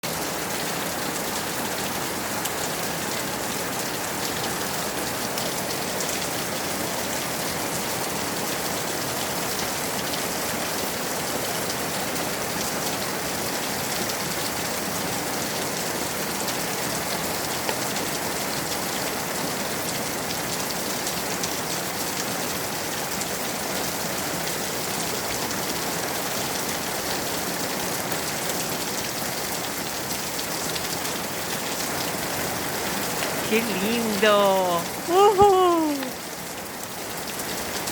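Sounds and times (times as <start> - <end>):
steady rain falling: 0.1 - 37.9.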